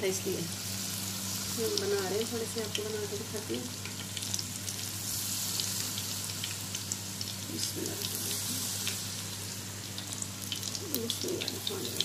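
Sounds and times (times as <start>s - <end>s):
deep-frying sizzle with pops: 0.0s - 12.0s
low steady hum: 0.0s - 12.0s.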